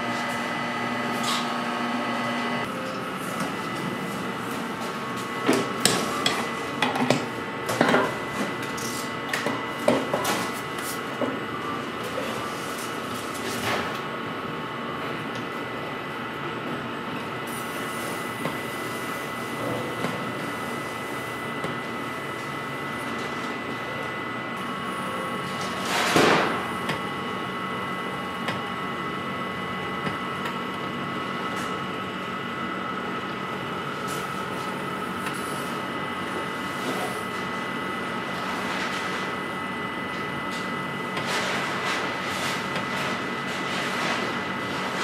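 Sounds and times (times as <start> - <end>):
machine humming and whining: 0.0 - 45.0.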